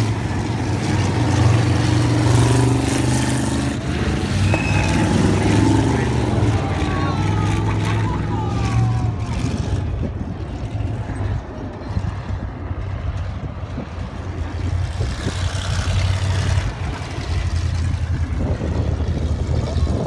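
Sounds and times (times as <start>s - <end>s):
distant race car engine: 0.0s - 20.0s.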